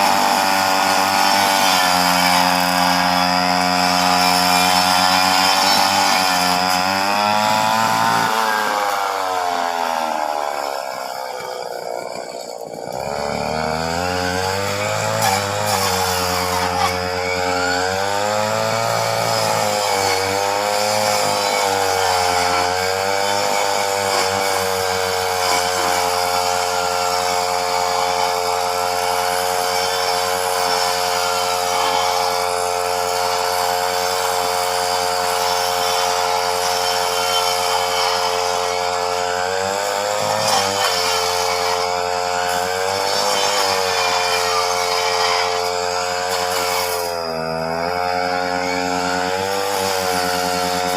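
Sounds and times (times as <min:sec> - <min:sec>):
chainsaw cutting branches: 0:00.0 - 0:50.9.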